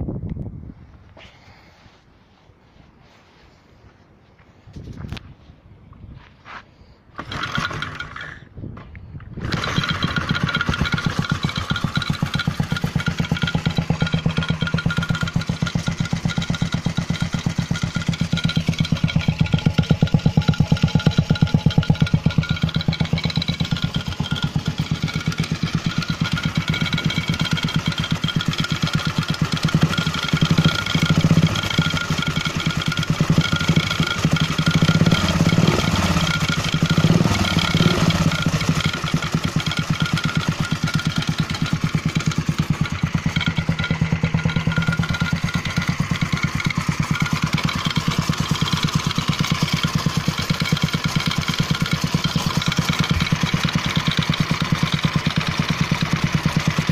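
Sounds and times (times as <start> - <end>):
motorcycle engine idling: 7.2 - 56.9.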